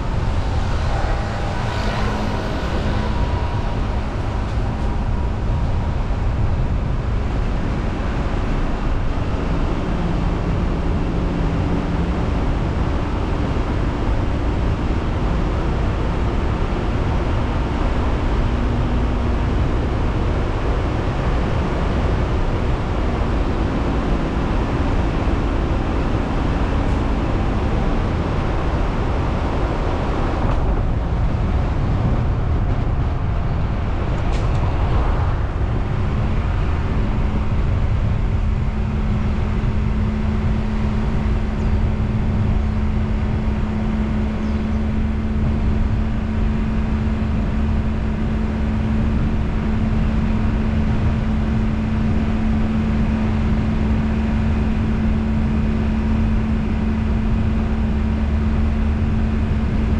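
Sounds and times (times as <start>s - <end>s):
car engine driving: 0.0s - 59.9s
steady low hum: 0.0s - 59.9s
tyre road noise: 0.0s - 59.9s.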